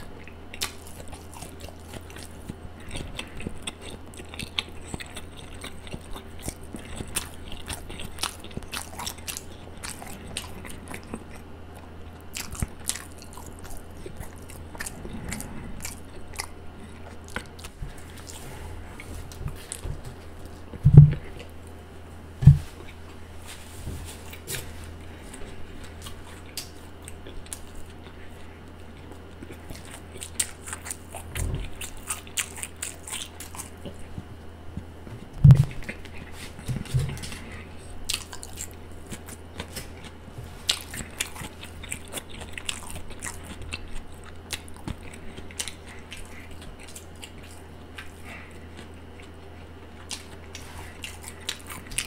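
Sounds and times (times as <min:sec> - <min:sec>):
chewing sandwich: 0:00.0 - 0:52.0.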